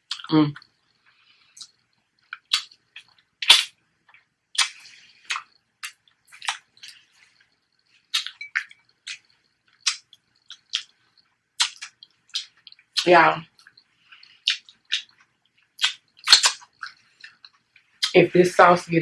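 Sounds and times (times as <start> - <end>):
wet chewing clicks and smacks: 0.0 - 18.2.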